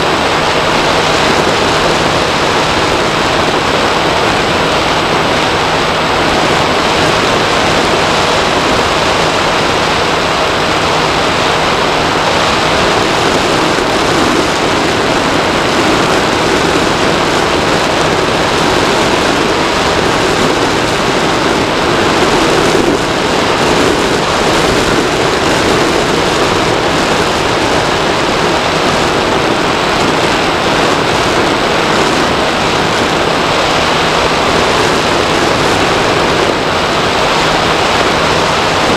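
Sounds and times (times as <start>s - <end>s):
airflow rushing over camera: 0.0s - 38.9s.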